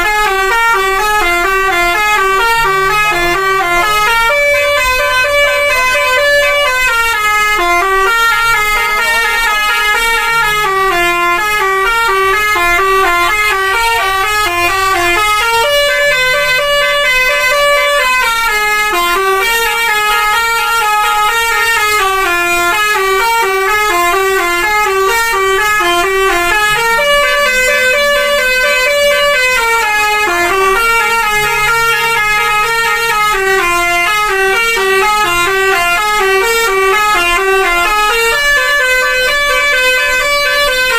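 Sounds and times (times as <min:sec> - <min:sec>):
multi-tone musical bus horn: 0:00.0 - 0:40.9.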